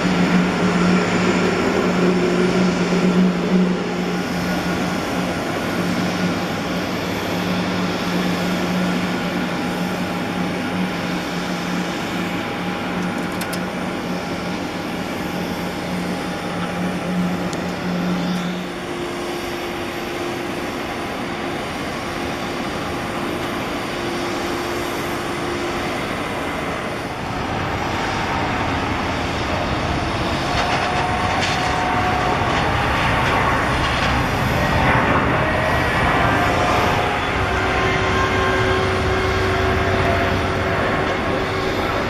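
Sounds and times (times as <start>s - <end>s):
jet engines roaring and whining: 0.0s - 42.0s.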